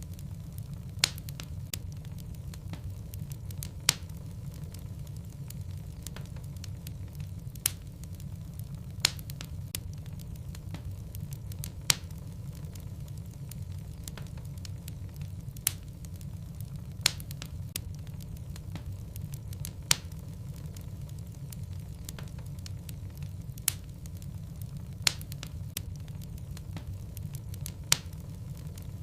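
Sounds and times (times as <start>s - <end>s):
fire crackling and popping: 0.0s - 29.0s
low rumble of flame: 0.0s - 29.0s.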